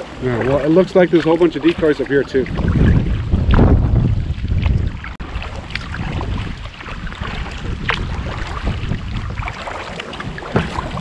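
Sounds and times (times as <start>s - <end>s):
paddle splashes and drips: 0.0s - 11.0s
wind buffeting microphone: 0.1s - 11.0s.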